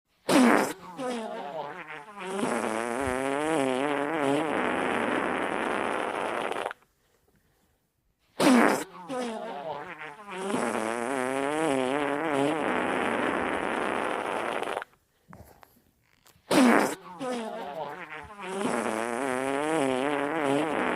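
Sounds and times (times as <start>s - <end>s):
comic fart sound: 0.2s - 6.8s, 8.4s - 15.0s, 16.1s - 20.9s.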